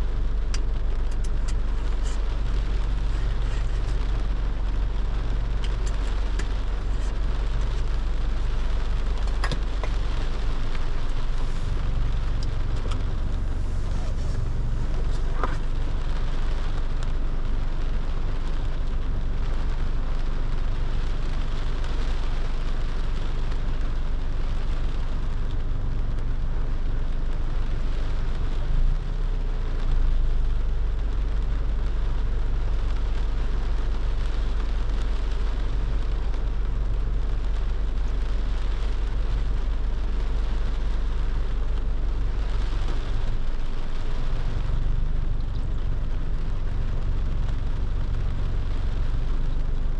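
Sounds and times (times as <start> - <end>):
car road rumble: 0.0 - 49.9
rain hissing: 0.0 - 49.9.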